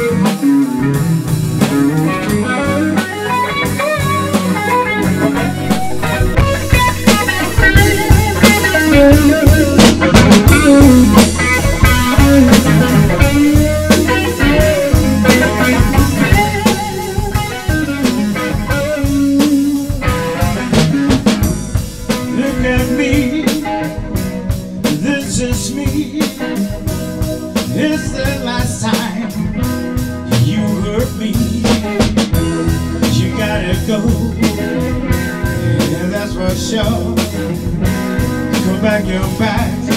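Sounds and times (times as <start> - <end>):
drum kit steady beat: 0.0 - 39.9
electric guitar with bending notes: 0.0 - 39.9.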